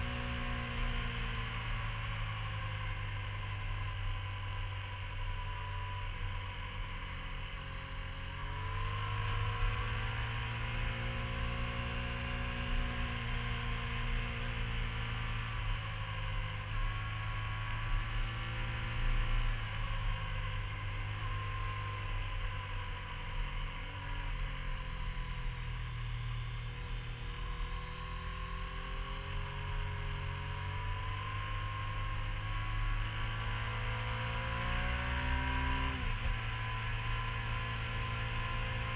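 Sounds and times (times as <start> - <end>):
motorcycle engine revving: 6.8 - 38.9.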